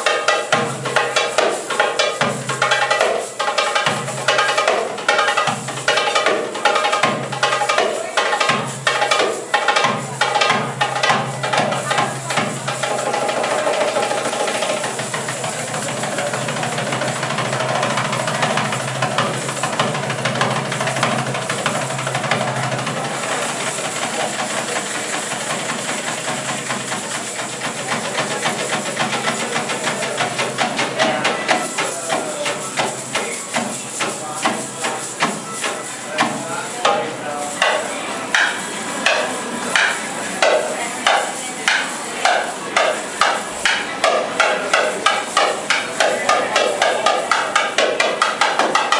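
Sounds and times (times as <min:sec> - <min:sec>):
goblet drum playing: 0:00.0 - 0:48.9.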